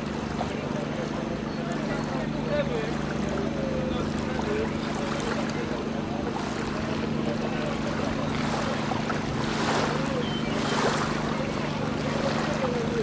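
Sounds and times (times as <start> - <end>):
water noise: 0.0 - 13.0.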